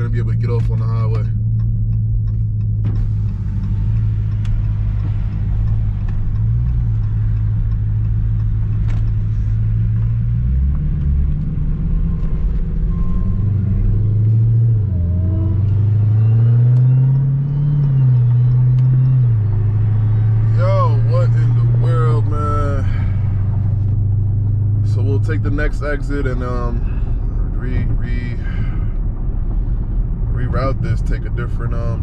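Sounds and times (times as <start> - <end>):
car engine humming: 0.0 - 32.0
road noise: 0.0 - 32.0.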